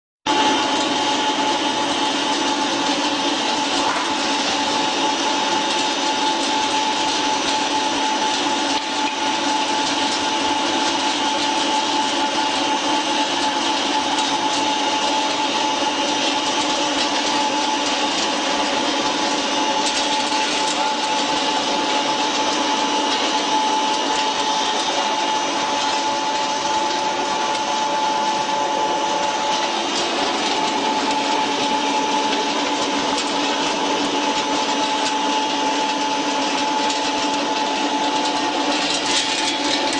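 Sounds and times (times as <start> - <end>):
pellet mill machine drone: 0.3 - 39.9.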